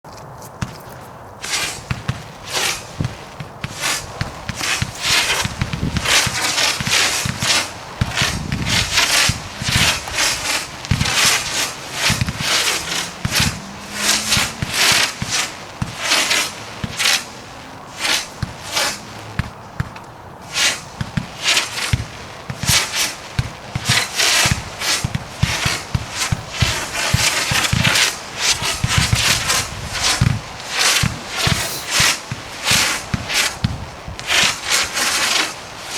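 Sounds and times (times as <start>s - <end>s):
fireworks cake firing: 0.6s - 35.9s.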